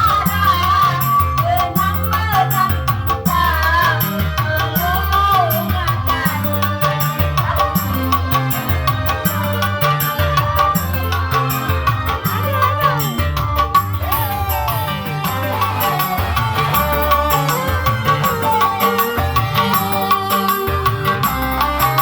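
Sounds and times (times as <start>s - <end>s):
heavy bass: 0.0s - 22.0s
loud music with drum beat: 0.0s - 22.0s
wavering melody line: 3.4s - 22.0s.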